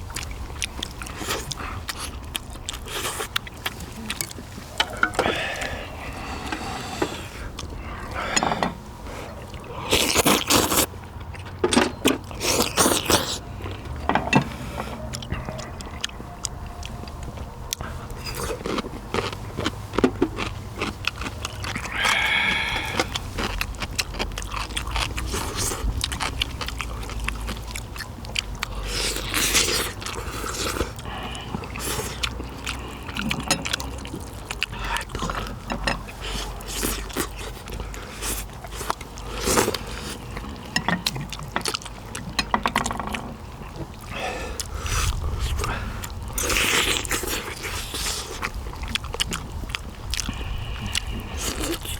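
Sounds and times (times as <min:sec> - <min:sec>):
person chewing meat off bones: 0:00.0 - 0:51.9.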